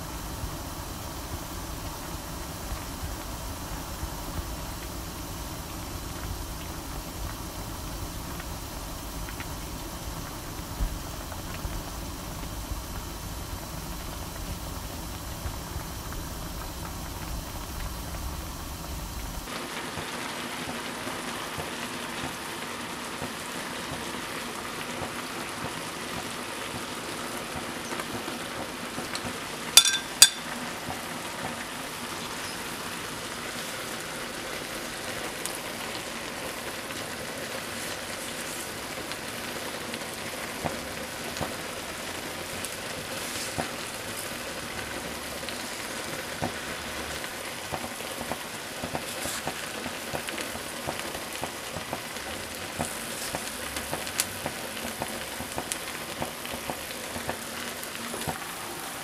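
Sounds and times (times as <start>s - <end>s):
sauce bubbling in a pan: 0.0s - 59.0s.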